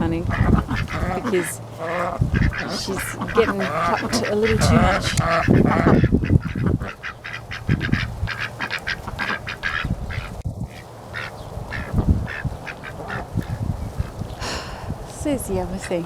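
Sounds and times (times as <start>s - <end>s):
ducks quacking: 0.0s - 14.6s, 15.4s - 16.0s.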